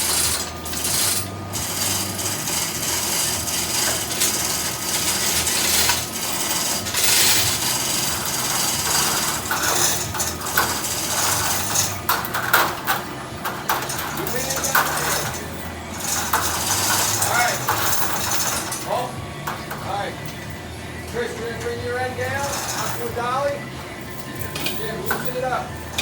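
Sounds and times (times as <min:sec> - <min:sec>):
metal clanks and rattles: 0:00.0 - 0:26.0.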